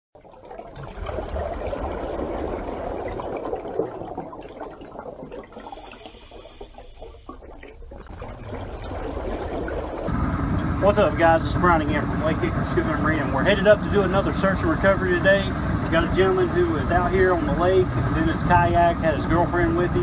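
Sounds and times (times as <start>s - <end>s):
water bubbling and gurgling: 0.2s - 20.0s.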